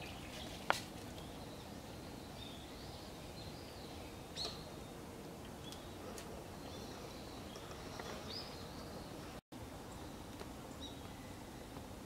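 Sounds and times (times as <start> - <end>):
small birds chirping: 0.0 - 11.9
outdoor background hiss: 0.0 - 12.0.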